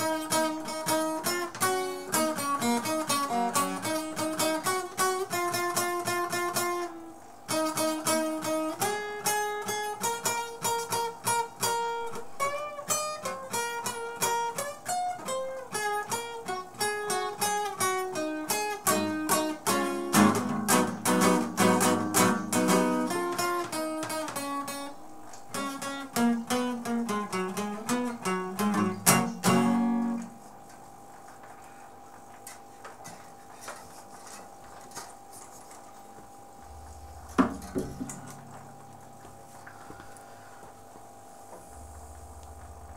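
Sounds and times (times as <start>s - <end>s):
acoustic guitar playing: 0.0s - 30.5s, 36.7s - 40.6s.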